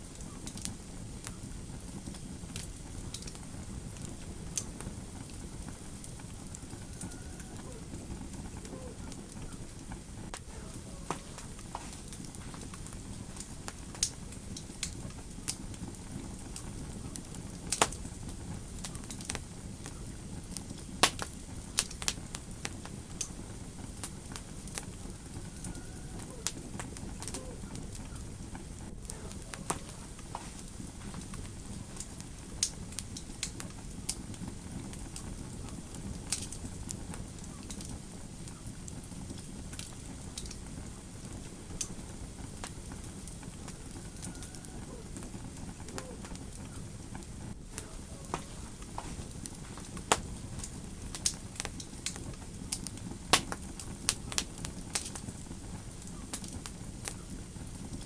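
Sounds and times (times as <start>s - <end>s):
fire crackling: 0.0s - 58.0s
sharp pops of fire: 0.0s - 58.0s.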